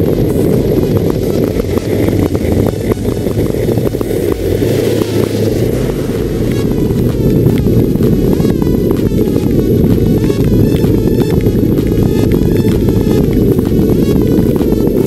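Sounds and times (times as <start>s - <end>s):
car engine running: 0.0s - 15.0s
tyre and road noise: 0.0s - 15.0s.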